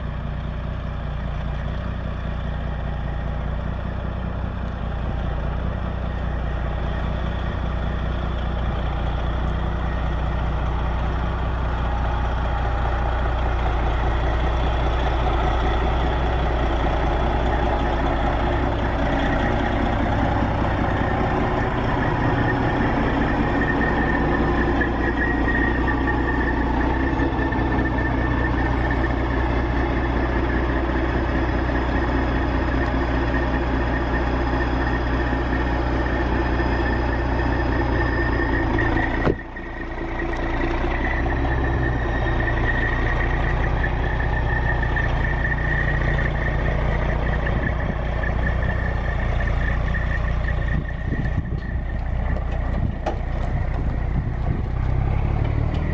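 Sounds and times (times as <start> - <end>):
diesel truck engine idling: 0.0 - 55.9.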